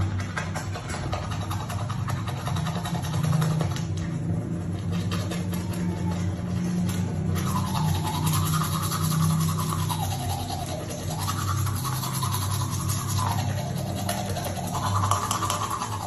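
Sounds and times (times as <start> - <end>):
low steady hum: 0.0 - 16.0
toothbrush scrubbing teeth: 0.0 - 16.0.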